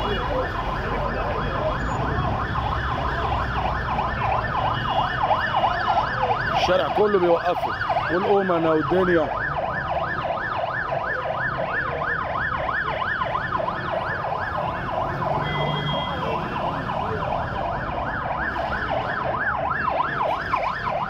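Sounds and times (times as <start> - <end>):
ambulance siren yelping: 0.0 - 21.0
low traffic rumble: 0.0 - 21.0.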